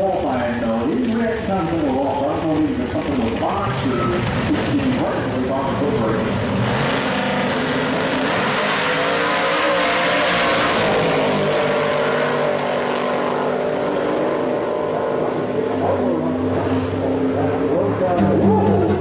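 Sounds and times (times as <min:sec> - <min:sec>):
drag racing cars accelerating: 0:00.0 - 0:19.0.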